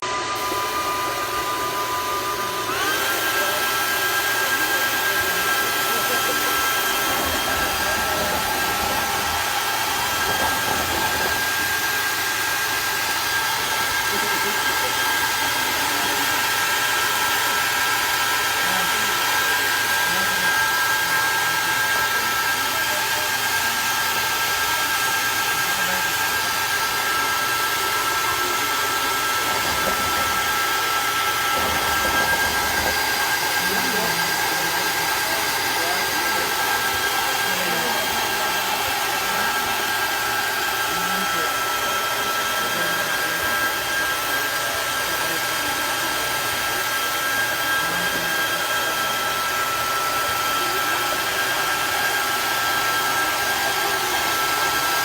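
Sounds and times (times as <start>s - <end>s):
small electric motor whining: 0.0s - 55.0s.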